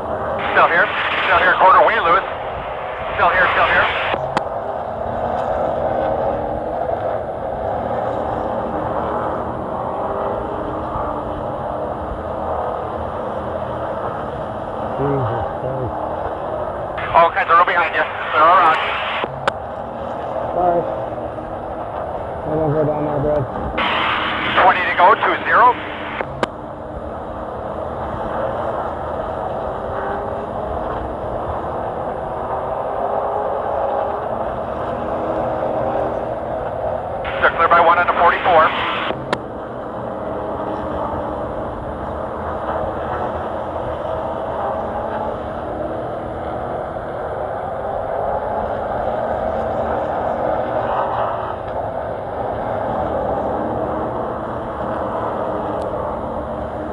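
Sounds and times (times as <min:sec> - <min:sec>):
race truck engine running hard: 0:00.0 - 0:56.9
road noise: 0:00.0 - 0:56.9.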